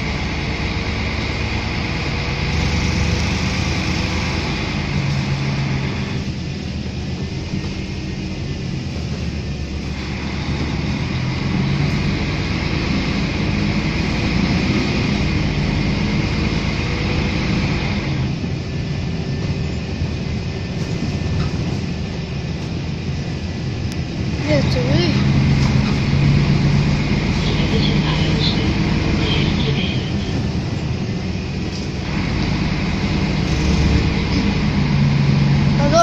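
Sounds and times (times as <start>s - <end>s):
bus engine drone: 0.0s - 36.0s
road and tyre noise: 0.0s - 36.0s.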